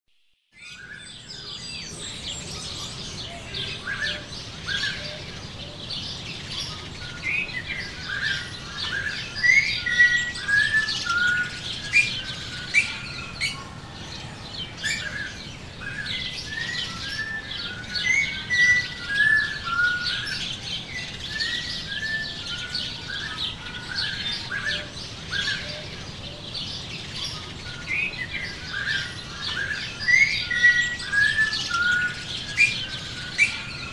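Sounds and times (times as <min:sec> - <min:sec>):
songbirds chirping: 0:00.5 - 0:33.9.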